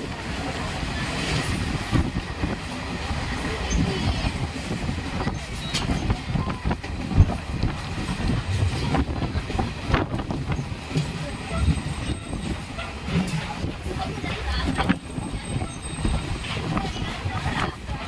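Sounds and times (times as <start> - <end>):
train rumbling on track: 0.0 - 18.0
wheels clattering over rails: 0.0 - 18.0.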